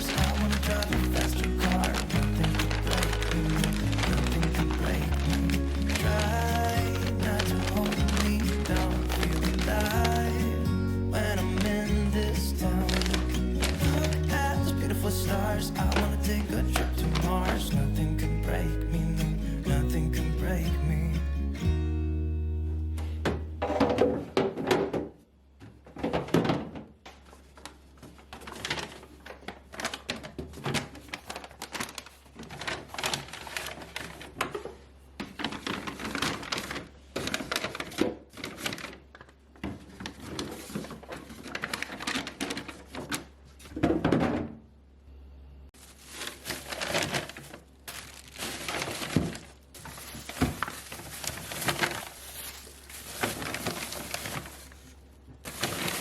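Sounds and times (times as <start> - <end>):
plastic crinkling: 0.0 - 19.0, 27.1 - 43.7, 45.8 - 56.0.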